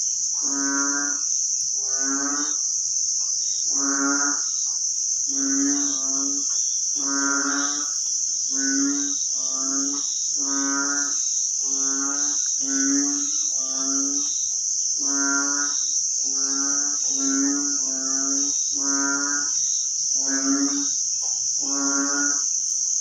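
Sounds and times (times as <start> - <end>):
crickets chirping: 0.0 - 23.0
frogs croaking: 0.0 - 23.0.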